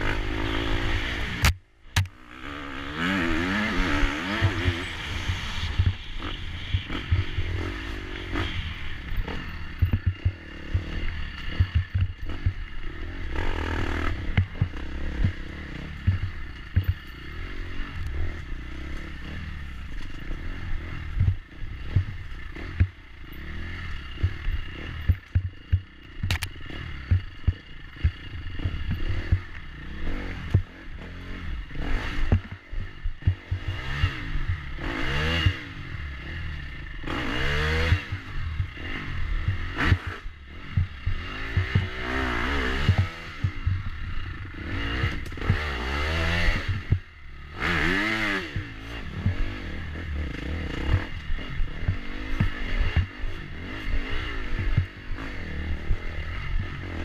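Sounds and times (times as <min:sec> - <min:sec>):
knocks and rattles of bike: 0:00.0 - 0:02.4, 0:03.0 - 0:57.0
dirt bike engine revving: 0:00.0 - 0:57.0.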